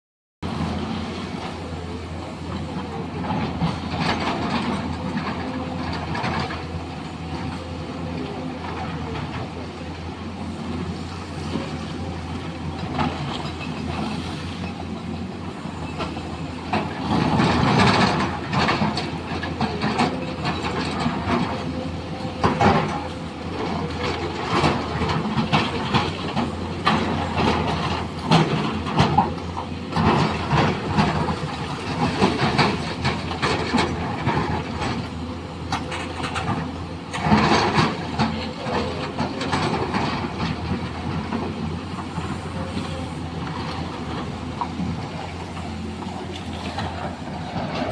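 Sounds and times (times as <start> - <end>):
excavator engine hum: 0.4 - 47.9.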